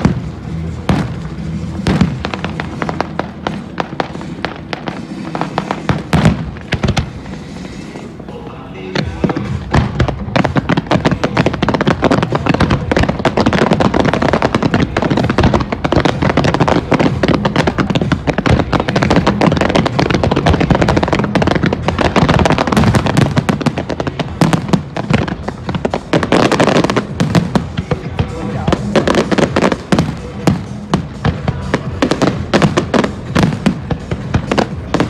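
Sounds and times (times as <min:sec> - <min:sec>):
fireworks bursts and bangs: 0:00.0 - 0:35.0
fireworks crackling: 0:00.0 - 0:35.0.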